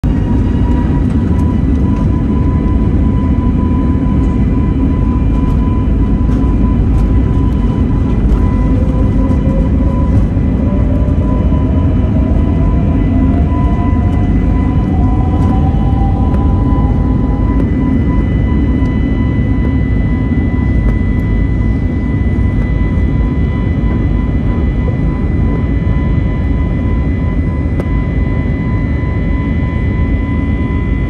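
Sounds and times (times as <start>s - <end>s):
jet engine rumble: 0.0s - 31.0s
rising whine: 0.0s - 31.0s
steady high whine: 0.0s - 31.0s.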